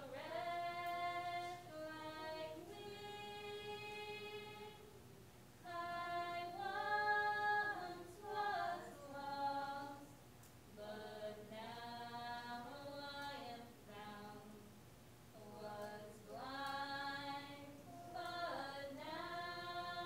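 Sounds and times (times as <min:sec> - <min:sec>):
woman singing a hymn: 0:00.0 - 0:05.0, 0:05.6 - 0:20.0.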